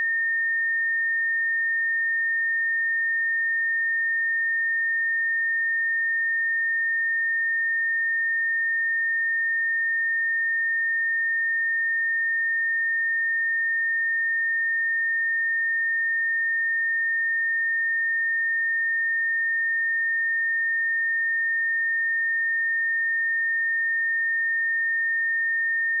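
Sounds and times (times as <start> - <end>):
sine-wave test tone: 0.0 - 26.0.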